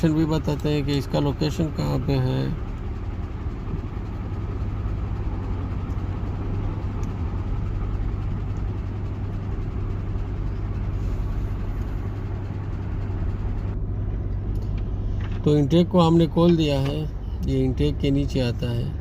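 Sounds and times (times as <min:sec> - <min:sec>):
continuous rumble: 0:00.0 - 0:19.0
low mechanical hum: 0:00.0 - 0:19.0.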